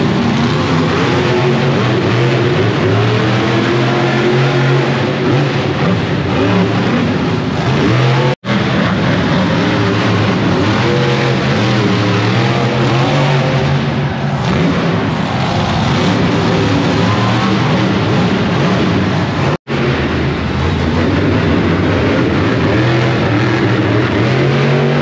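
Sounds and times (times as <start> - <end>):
monster truck engines revving: 0.0 - 25.0.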